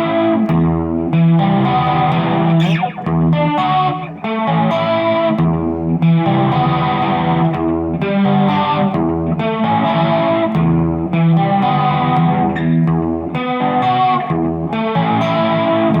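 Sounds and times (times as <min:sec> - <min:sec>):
electric guitar chords with effects: 0:00.0 - 0:16.0.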